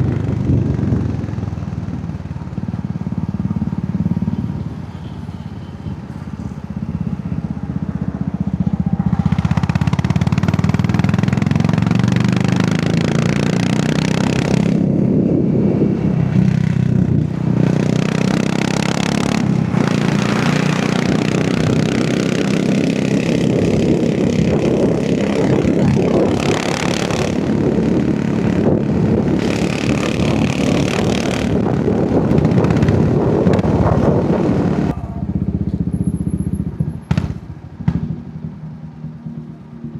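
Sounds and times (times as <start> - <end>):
motorcycle engine and exhaust: 0.0 - 39.9
wind and road noise: 0.0 - 39.9.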